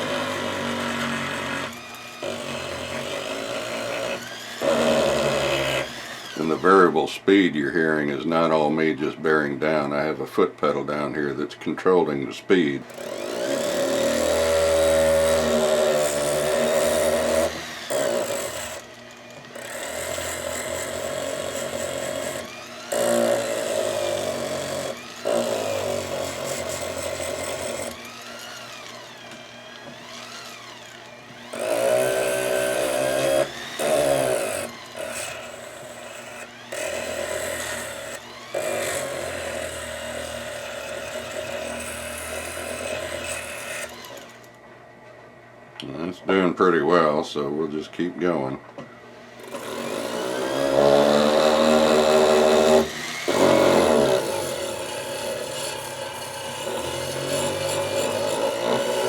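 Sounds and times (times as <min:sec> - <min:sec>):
rotary tool whining: 0:00.0 - 0:07.1, 0:12.5 - 0:44.6, 0:49.3 - 0:59.0.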